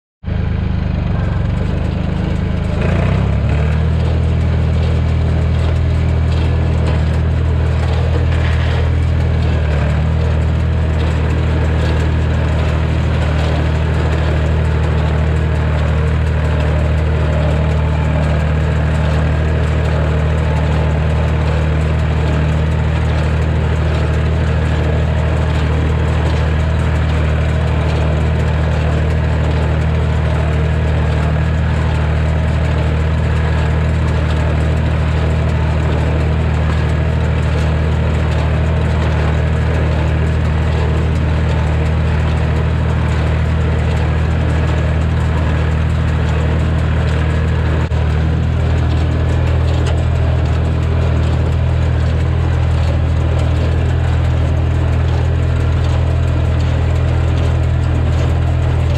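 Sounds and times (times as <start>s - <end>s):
tractor engine running: 0.2s - 58.9s.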